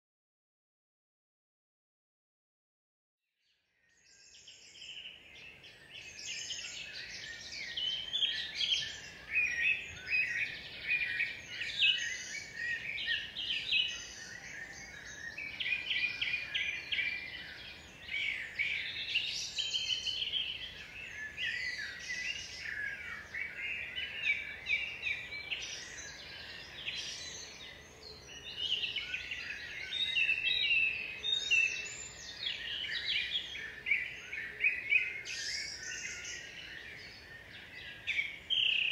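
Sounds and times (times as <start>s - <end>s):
birds singing in chorus: 3.4s - 38.9s.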